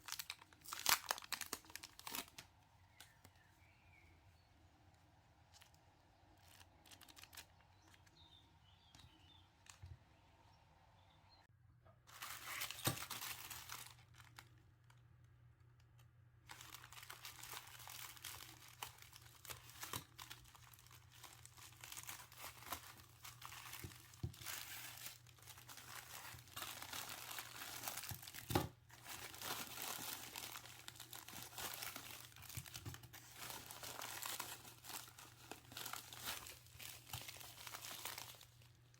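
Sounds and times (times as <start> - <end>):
packaging crinkling: 0.0 - 3.4, 5.5 - 9.8, 12.1 - 15.0, 16.4 - 38.9.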